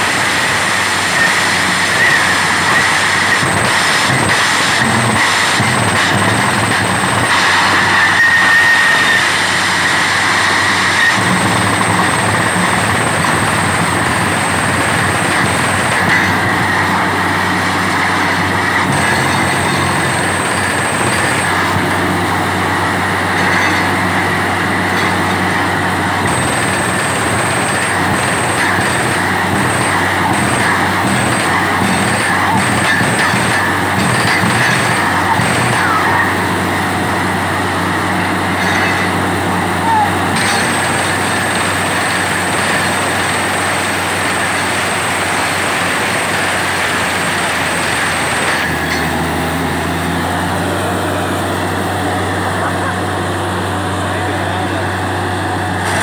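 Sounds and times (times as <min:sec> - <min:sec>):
drilling rig engine drone: 0:00.0 - 0:56.0
high whine: 0:00.0 - 0:56.0.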